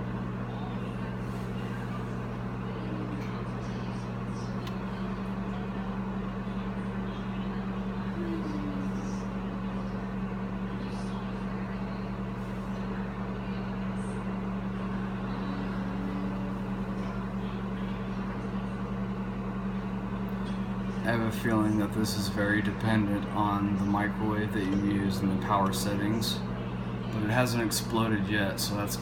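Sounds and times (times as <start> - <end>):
microwave oven humming: 0.0 - 29.0.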